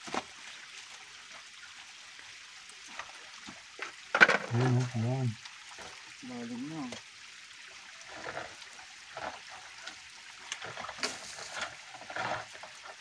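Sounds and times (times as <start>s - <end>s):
flowing water hiss: 0.0s - 13.0s
water sloshing and splashing: 0.0s - 13.0s.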